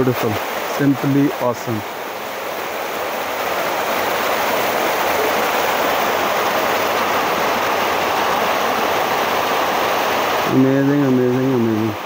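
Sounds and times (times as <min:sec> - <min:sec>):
water rushing down waterfall: 0:00.0 - 0:12.0.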